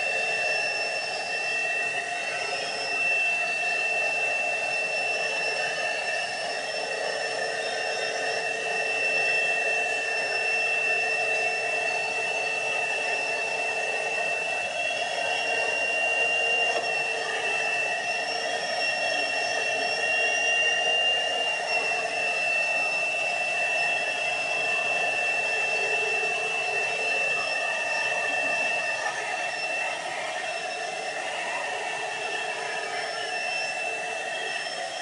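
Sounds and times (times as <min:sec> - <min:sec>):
vacuum cleaner motor whine: 0:00.0 - 0:35.0.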